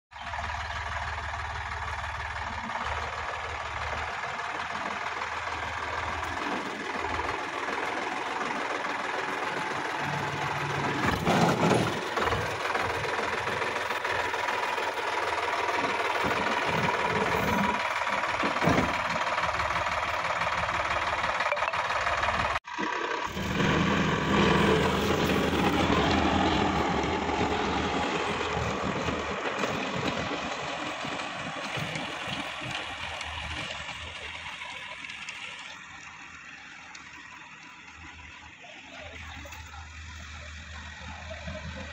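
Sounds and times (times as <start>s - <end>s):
tractor diesel engine running: 0.1s - 41.9s.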